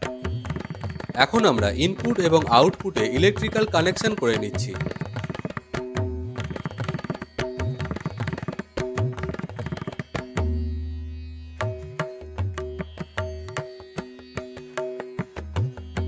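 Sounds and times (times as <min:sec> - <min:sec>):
instrumental music with drum rhythm: 0:00.0 - 0:10.8, 0:11.6 - 0:16.0.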